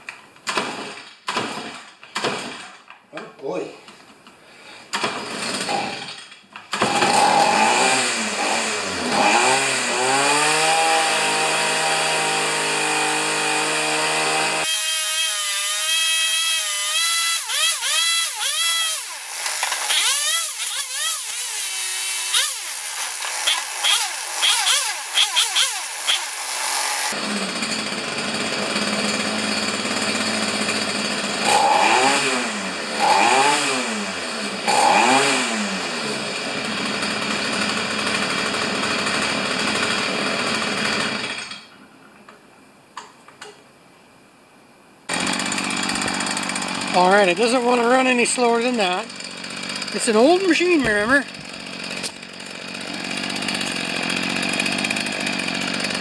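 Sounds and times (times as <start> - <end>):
string trimmer engine revving: 5.0 - 41.6, 45.1 - 56.0.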